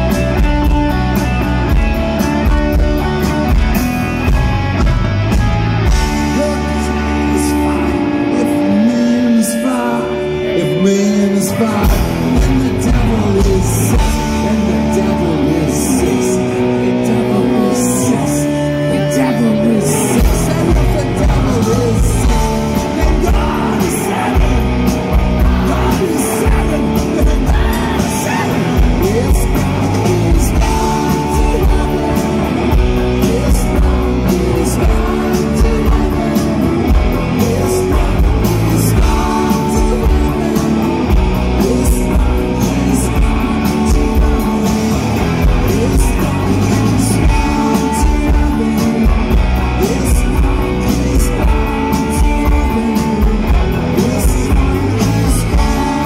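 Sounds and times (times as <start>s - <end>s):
drum kit: 0.0s - 9.1s, 11.6s - 17.6s, 19.9s - 56.0s
electric guitars: 0.0s - 56.0s
man singing into microphone: 6.2s - 56.0s.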